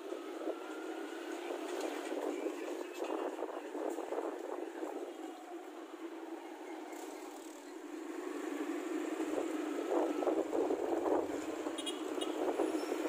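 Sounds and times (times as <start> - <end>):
town traffic: 0.0 - 13.0.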